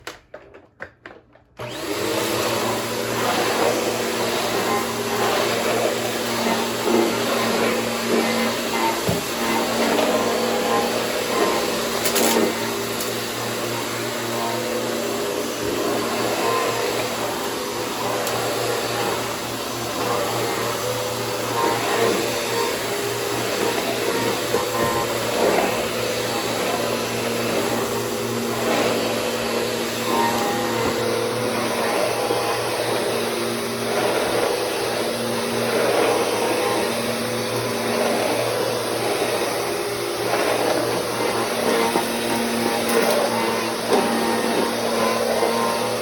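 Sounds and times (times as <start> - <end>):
vacuum cleaner running: 1.6 - 46.0.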